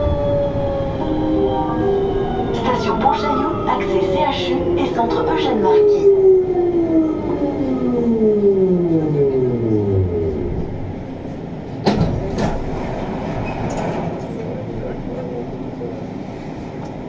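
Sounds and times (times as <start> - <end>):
train rolling noise: 0.0 - 17.0.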